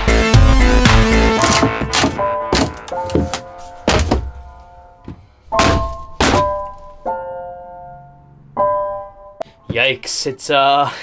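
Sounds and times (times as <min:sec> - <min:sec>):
background keyboard music: 0:00.0 - 0:10.4.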